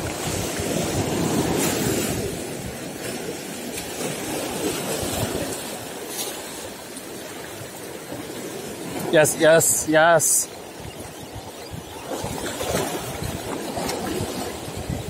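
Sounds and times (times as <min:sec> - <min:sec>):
surf washing over rocks: 0:00.0 - 0:11.4, 0:12.0 - 0:15.0.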